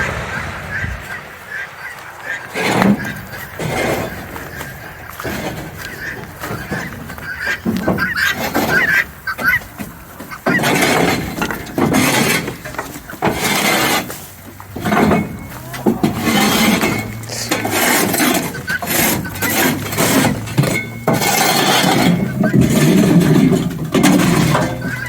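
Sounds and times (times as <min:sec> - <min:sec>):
hen calls: 0:00.0 - 0:11.7, 0:14.8 - 0:25.0
hand tool scraping droppings: 0:02.6 - 0:25.0.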